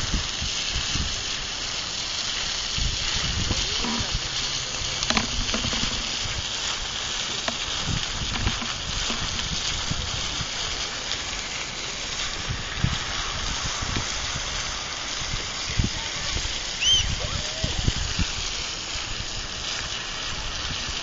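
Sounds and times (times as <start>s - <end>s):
wind buffeting microphone: 0.0s - 1.6s, 2.5s - 10.9s, 12.2s - 21.0s
steady hiss: 0.0s - 21.0s.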